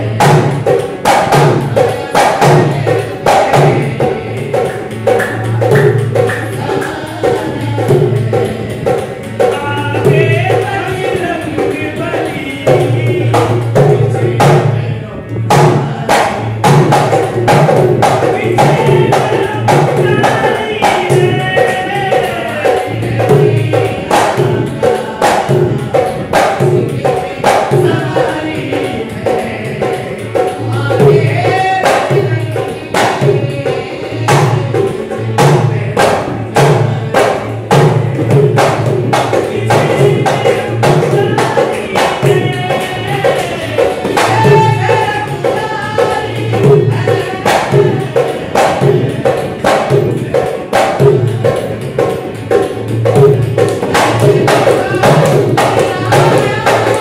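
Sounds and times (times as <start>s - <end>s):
devotional singing: 0.0s - 57.0s
hand drum beats: 0.0s - 57.0s
harmonium: 0.0s - 57.0s.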